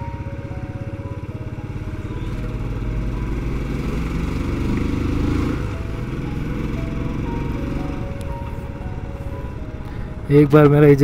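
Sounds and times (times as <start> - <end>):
motorcycle engine accelerating: 0.0 - 10.7.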